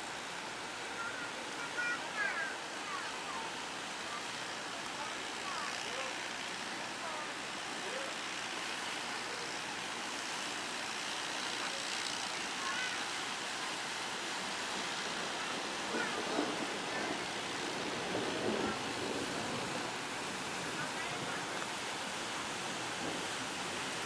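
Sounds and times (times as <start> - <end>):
faint distant voices: 0.0 - 24.0
surf and waves rushing: 0.0 - 24.0.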